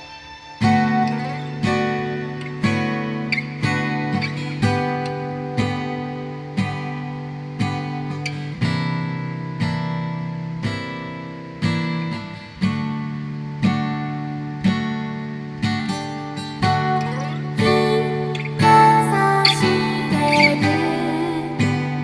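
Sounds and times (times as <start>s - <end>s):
slow strummed chords: 0.0s - 22.0s.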